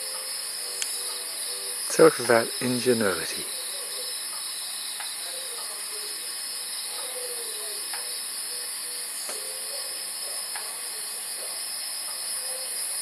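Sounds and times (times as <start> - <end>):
night insect chorus: 0.0 - 13.0.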